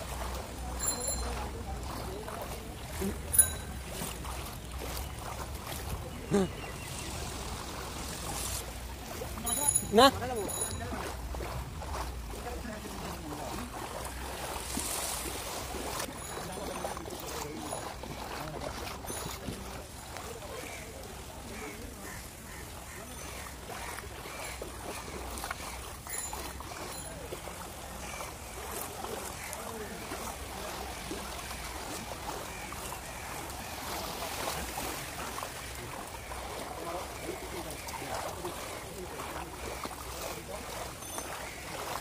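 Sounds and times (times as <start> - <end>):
floodwater sloshing around legs: 0.0 - 42.0
light rain on water: 0.0 - 42.0.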